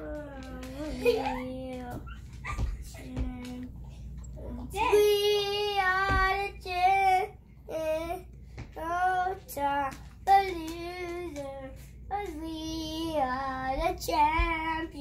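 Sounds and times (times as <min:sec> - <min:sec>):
boy singing: 0:00.0 - 0:02.0, 0:04.4 - 0:15.0.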